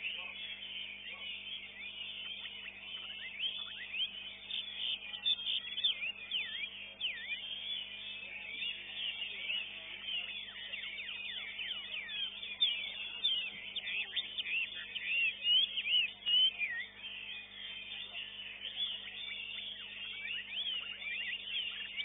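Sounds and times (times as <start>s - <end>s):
faint steady hum: 0.0s - 22.0s
songbirds singing: 0.0s - 22.0s.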